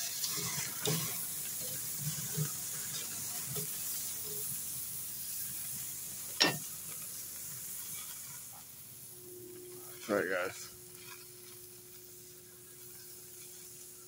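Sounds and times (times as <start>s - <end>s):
steaks sizzling on a grill: 0.0s - 14.0s.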